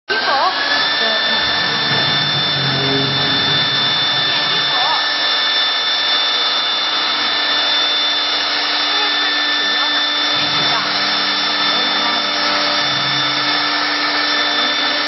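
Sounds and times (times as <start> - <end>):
cnc router spindle whine: 0.1 - 15.0.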